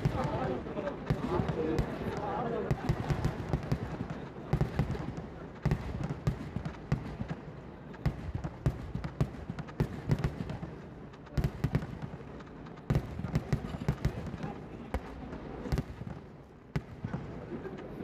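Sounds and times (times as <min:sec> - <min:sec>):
fireworks bangs and cracks: 0:00.0 - 0:18.0.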